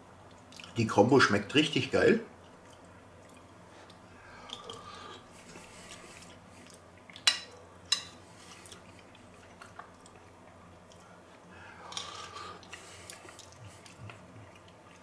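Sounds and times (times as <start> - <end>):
chewing and mouth noises: 0.2 - 0.8, 2.4 - 15.0.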